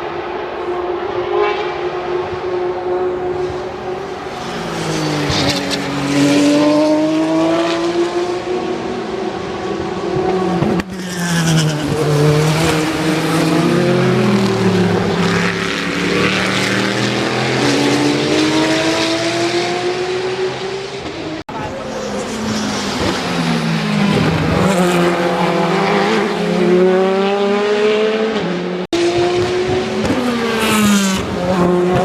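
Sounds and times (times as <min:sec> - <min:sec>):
racing car engines revving: 0:00.0 - 0:32.0.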